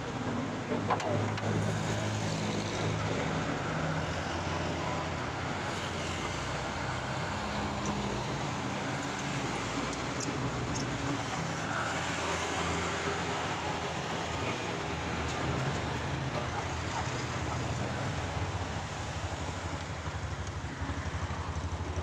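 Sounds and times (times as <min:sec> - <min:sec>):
road and traffic noise: 0:00.0 - 0:22.0
vehicle engine droning: 0:00.0 - 0:22.0.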